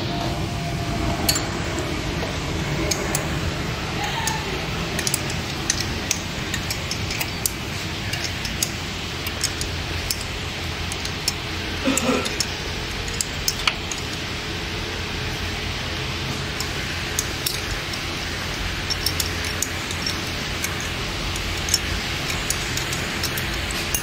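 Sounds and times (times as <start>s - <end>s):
steady low hum: 0.0s - 24.0s
wrench metallic clicks: 1.3s - 14.6s, 15.9s - 24.0s.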